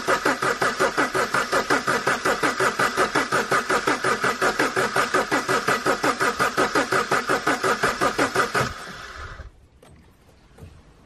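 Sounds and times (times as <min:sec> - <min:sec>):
starter motor cranking diesel engine: 0:00.0 - 0:09.5.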